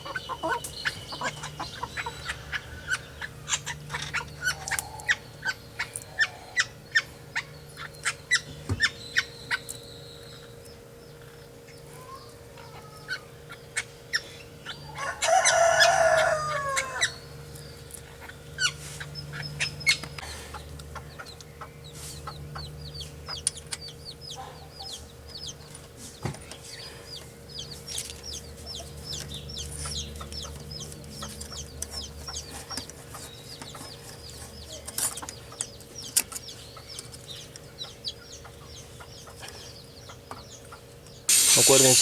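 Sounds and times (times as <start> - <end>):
chickens clucking: 0.0 - 9.8, 10.6 - 42.0
birds chirping: 0.0 - 42.0.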